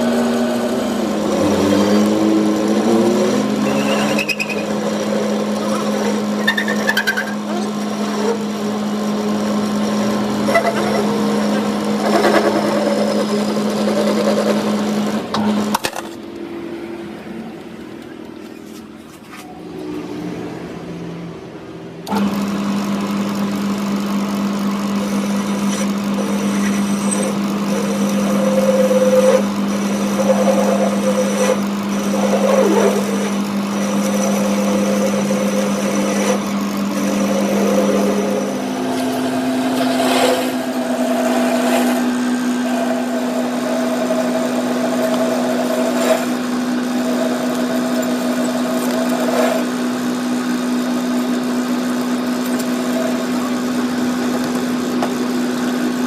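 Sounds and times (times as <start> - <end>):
electric motor humming: 0.0 - 56.0.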